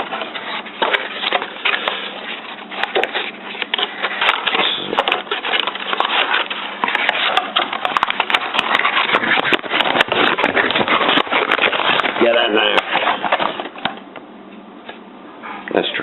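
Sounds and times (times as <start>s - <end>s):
packaging crackling and clicking: 0.0s - 14.0s.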